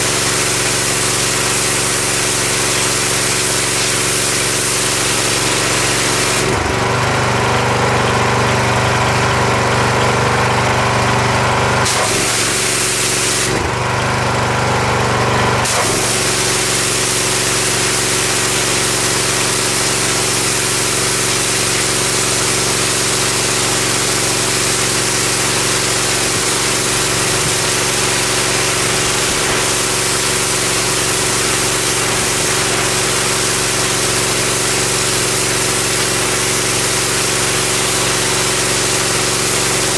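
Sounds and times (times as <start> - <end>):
high-pressure spray hissing: 0.0 - 6.5, 11.9 - 13.6, 15.6 - 39.9
pressure washer engine running: 0.0 - 39.9.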